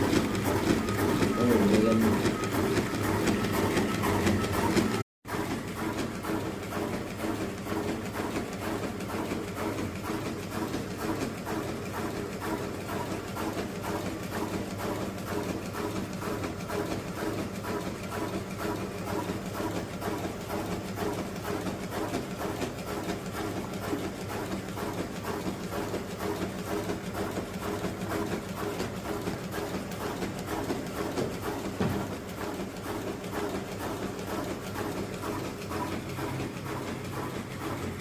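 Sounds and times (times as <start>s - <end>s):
filling machine humming and clicking: 0.0s - 38.0s.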